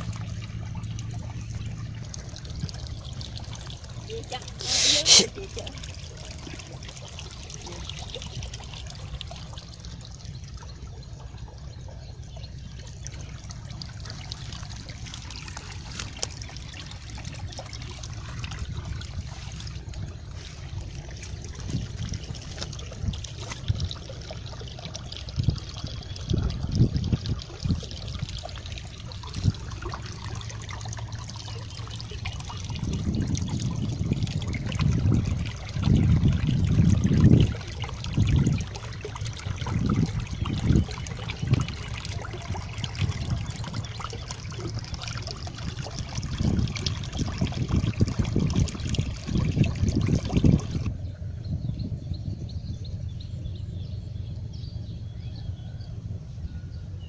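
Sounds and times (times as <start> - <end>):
water trickling in ditch: 0.0 - 57.0.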